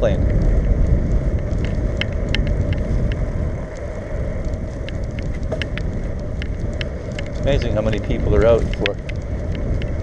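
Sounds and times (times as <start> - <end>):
bicycle tyres on road: 0.0 - 10.0
light clicks and rattles: 0.0 - 10.0
wind on microphone: 0.0 - 10.0.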